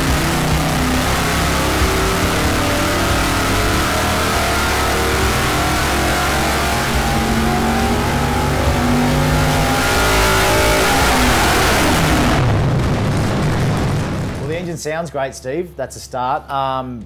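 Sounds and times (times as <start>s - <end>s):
engine revving under load: 0.0s - 14.5s.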